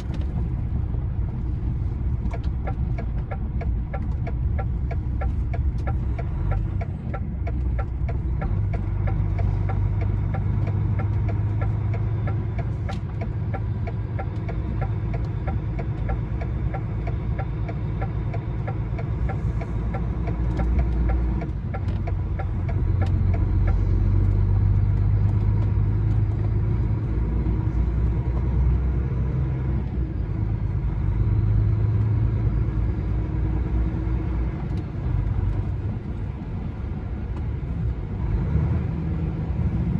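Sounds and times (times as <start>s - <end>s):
diesel engine droning: 0.0s - 39.9s
road noise: 0.0s - 39.9s.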